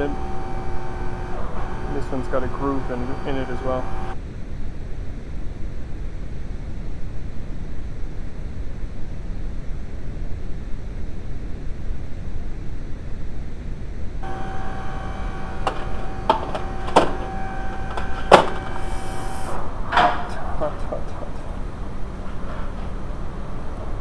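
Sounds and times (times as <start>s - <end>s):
steady whine: 0.0s - 24.0s.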